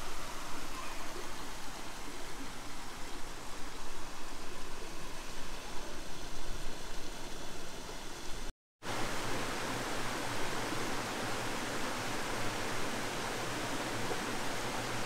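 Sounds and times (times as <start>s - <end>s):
stream running over rocks: 0.0s - 15.0s.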